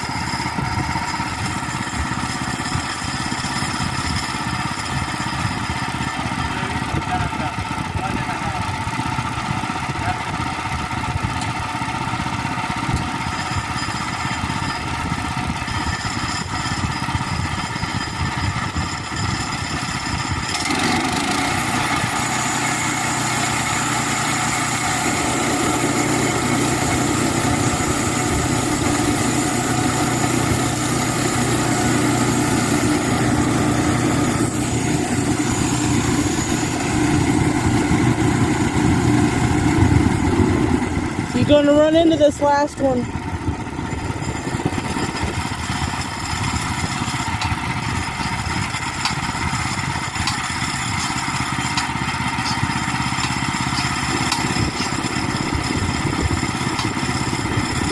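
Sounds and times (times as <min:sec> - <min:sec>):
sawmill engine running: 0:00.0 - 0:57.9.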